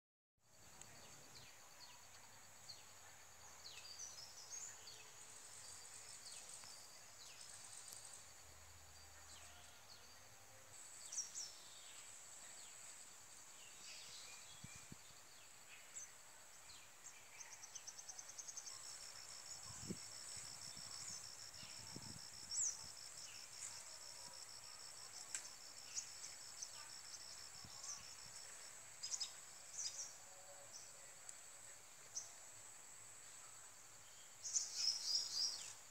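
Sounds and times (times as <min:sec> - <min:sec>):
insects trilling: 0:00.5 - 0:35.9.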